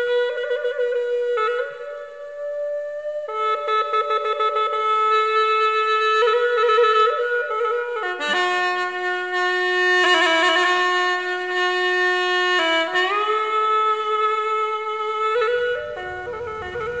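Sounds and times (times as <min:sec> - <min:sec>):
solo woodwind melody: 0:00.0 - 0:17.0.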